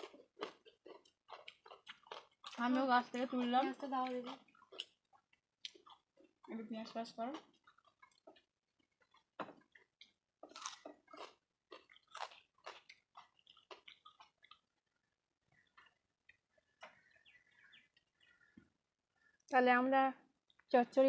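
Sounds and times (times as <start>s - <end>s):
chewing and crunching food: 0.0s - 19.5s.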